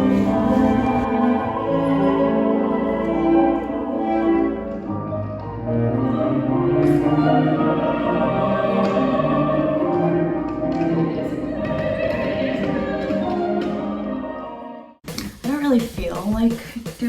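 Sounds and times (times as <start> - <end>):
choir singing with orchestra: 0.0 - 15.0.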